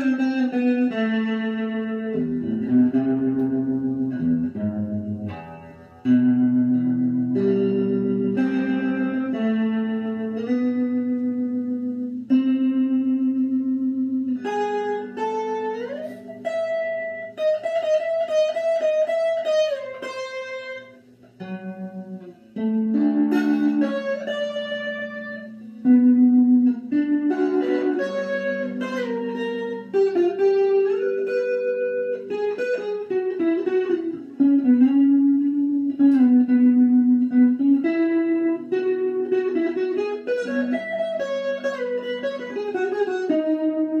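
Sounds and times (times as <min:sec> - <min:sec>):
electric guitar slow lead: 0:00.0 - 0:44.0.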